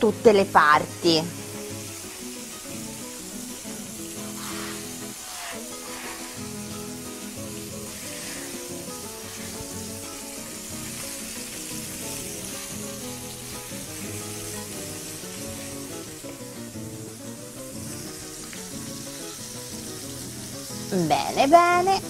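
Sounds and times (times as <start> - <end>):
background music: 0.0 - 22.0
fish frying in oil: 0.0 - 22.0.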